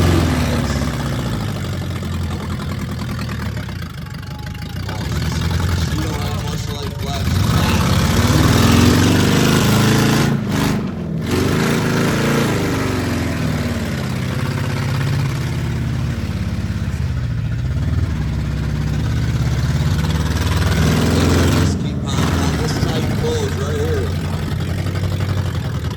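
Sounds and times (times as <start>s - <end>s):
car engines revving: 0.0s - 25.9s.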